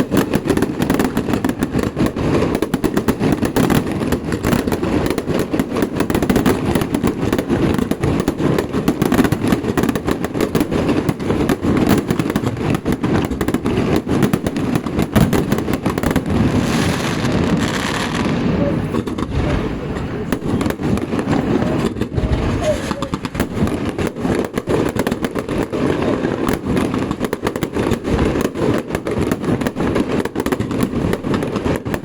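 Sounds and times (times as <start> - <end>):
firecrackers crackling: 0.0 - 32.0.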